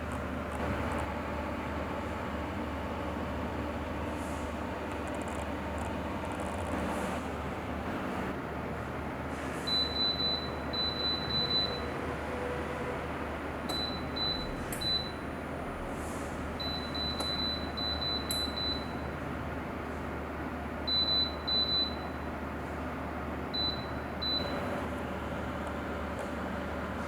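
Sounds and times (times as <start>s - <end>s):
heater fan blowing air: 0.0s - 27.0s.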